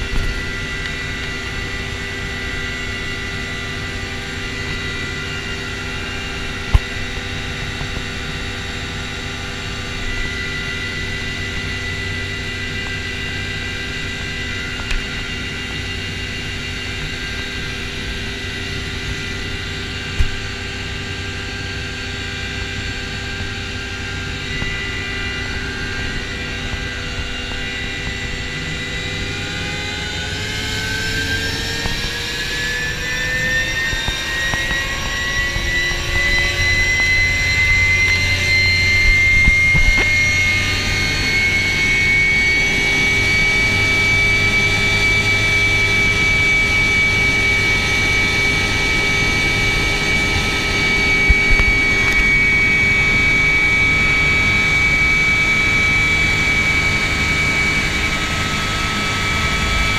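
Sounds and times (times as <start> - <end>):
helicopter engine and rotor running: 0.0 - 59.9.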